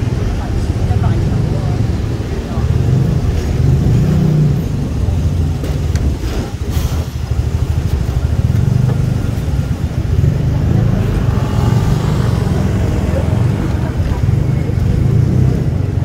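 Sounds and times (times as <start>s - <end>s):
road traffic: 0.0s - 16.0s
tram motor and wheels humming: 0.0s - 16.0s.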